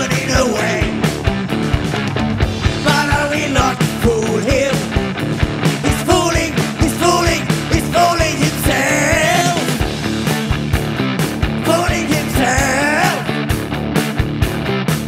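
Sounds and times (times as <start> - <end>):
bass: 0.0 - 15.0
drums: 0.0 - 15.0
electric guitar: 0.0 - 15.0.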